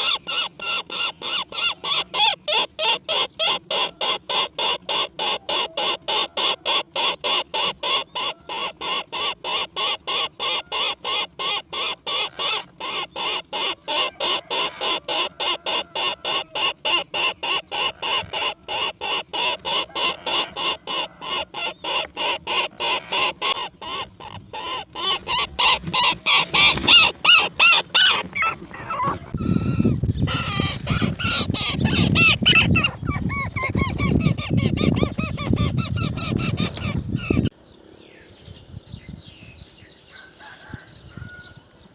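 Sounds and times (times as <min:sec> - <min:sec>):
rough jumbled bird calling: 0:00.0 - 0:38.3
rapid repeated bird calls: 0:00.0 - 0:38.4.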